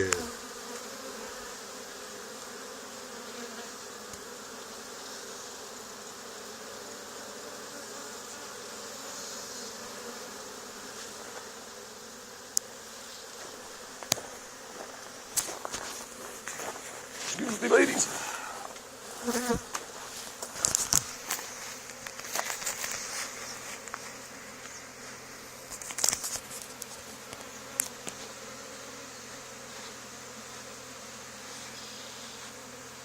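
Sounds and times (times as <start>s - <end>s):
bee swarm buzzing: 0.0s - 33.0s.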